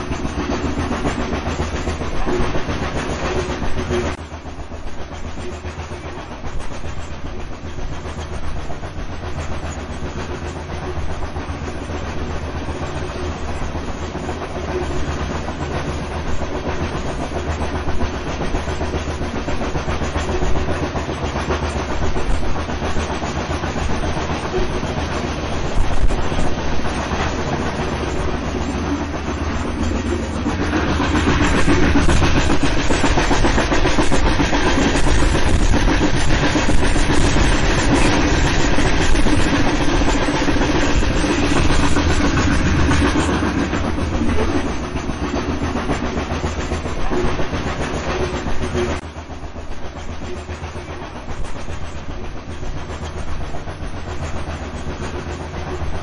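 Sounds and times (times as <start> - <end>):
steam train rumbling: 0.0 - 56.0.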